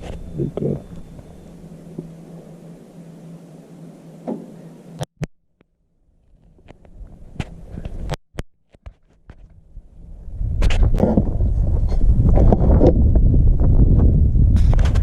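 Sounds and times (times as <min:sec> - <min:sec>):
low steady hum: 0:00.0 - 0:08.2, 0:09.0 - 0:15.0.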